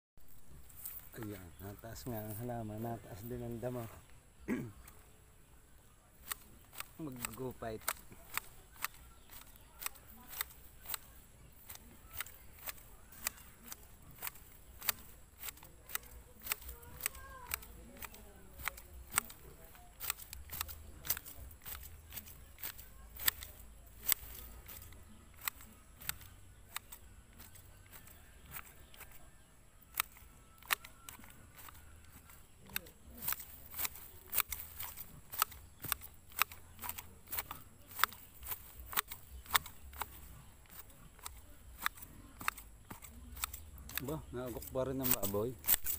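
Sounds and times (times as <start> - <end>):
grass shears snipping grass: 0.2 - 5.2, 5.8 - 45.9.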